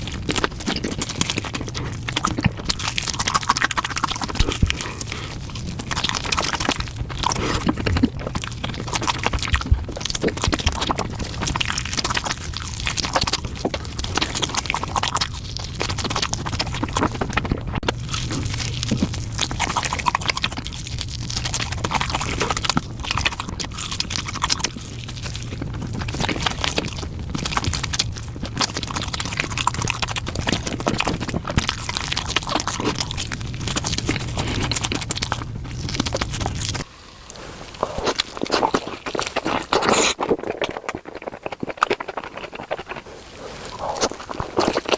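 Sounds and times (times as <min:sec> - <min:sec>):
steady low hum: 0:00.0 - 0:39.9
chewing and crunching: 0:00.0 - 0:44.9.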